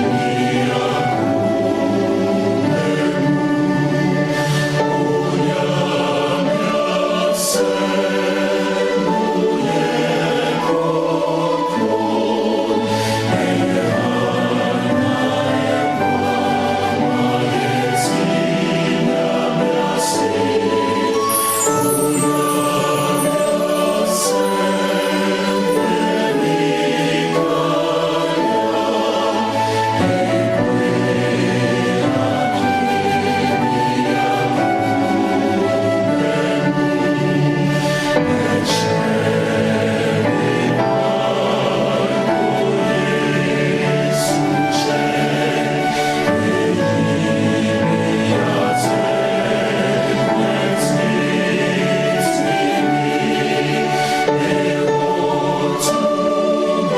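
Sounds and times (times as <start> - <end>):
choir singing in harmony: 0.0 - 56.9.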